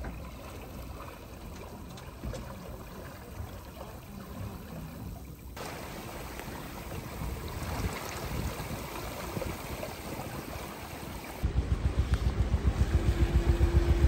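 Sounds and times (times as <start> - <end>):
rushing water: 0.0 - 11.4
low uneven boat rumble: 0.0 - 14.0.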